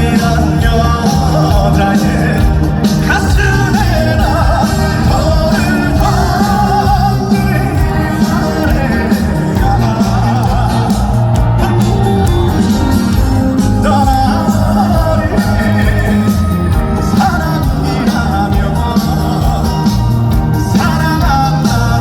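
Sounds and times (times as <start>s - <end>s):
amplified band with bass: 0.0s - 22.0s
man singing: 0.0s - 22.0s.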